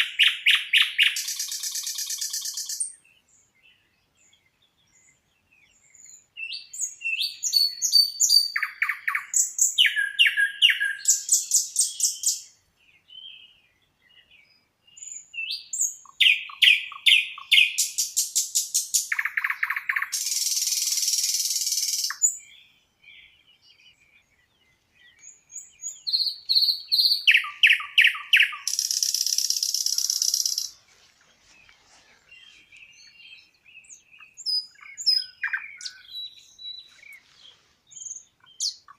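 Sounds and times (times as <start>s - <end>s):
buzzy hiss in birdsong: 0.0s - 38.9s
songbird singing: 0.0s - 38.9s.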